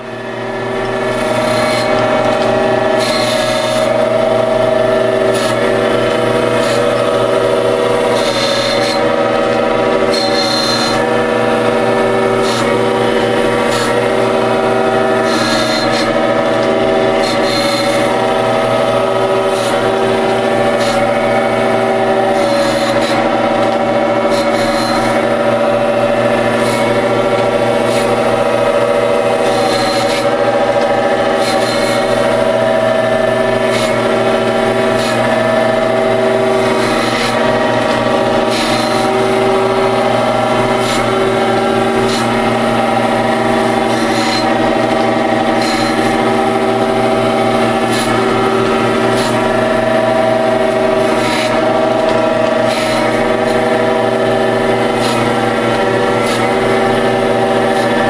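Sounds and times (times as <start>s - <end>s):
electric motor hum: 0.0s - 58.0s
grinding wheel hissing on steel: 0.0s - 58.0s.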